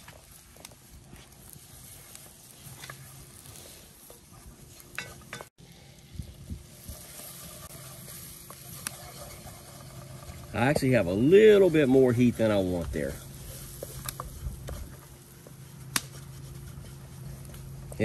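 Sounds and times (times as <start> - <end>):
butter and flour sizzling in a pot: 0.0 - 18.0.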